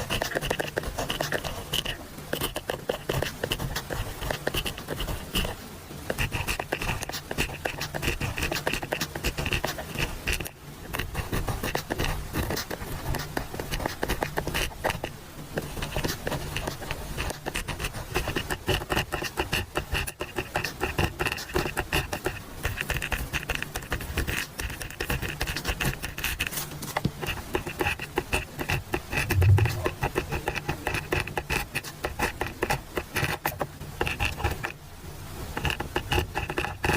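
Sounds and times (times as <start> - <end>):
pen scratching on paper: 0.0 - 34.8, 35.5 - 36.9.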